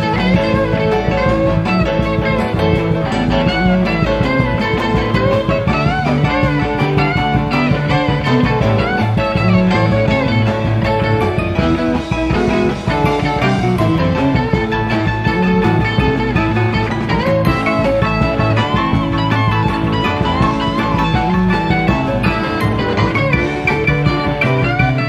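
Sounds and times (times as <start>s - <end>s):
lead electric guitar: 0.0s - 25.0s
steady drum beat: 0.0s - 25.0s.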